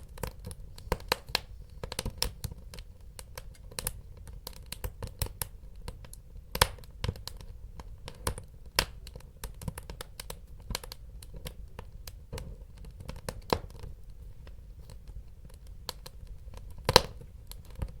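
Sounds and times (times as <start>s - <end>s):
low rumble of burning: 0.0s - 18.0s
wood fire crackling and popping: 0.0s - 18.0s.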